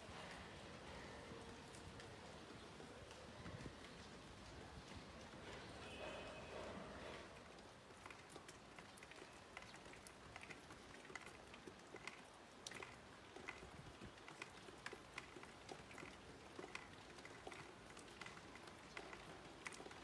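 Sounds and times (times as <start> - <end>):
raindrops ticking: 0.0 - 20.0
soft rain hiss: 0.0 - 20.0.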